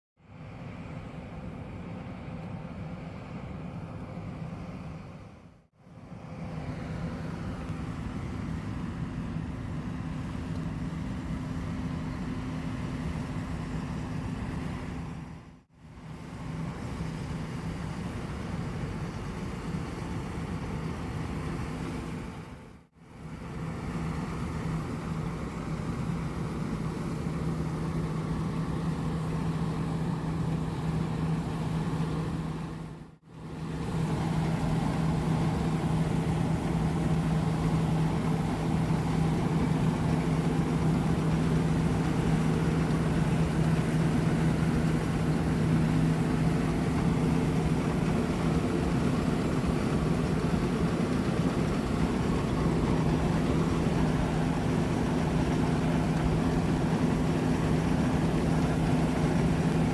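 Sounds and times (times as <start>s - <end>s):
combine harvester running: 0.3s - 59.9s.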